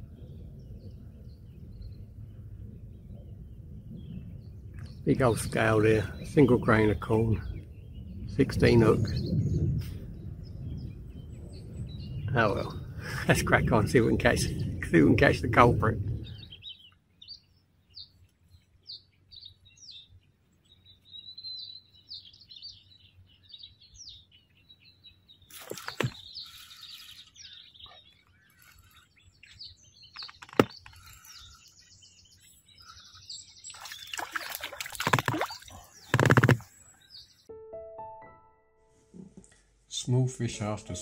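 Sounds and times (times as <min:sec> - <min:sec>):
small birds chirping: 0:00.0 - 0:13.3, 0:15.9 - 0:37.5.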